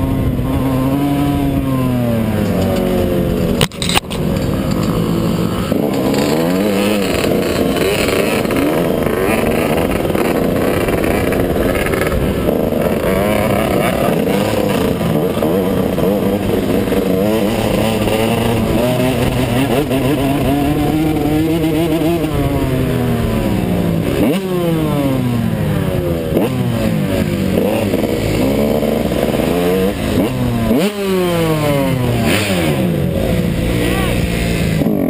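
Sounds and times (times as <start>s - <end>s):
engine throttle blips: 0.0s - 35.0s
motorcycle engine running: 0.0s - 35.0s.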